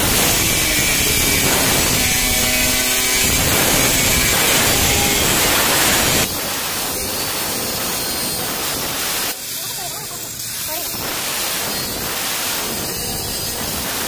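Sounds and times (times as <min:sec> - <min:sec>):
angle grinder cutting metal: 0:00.0 - 0:14.0.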